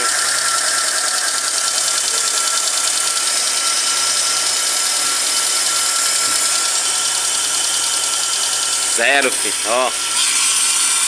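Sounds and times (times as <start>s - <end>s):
car engine idling: 0.0s - 10.1s
thin constant whistle: 0.0s - 11.0s.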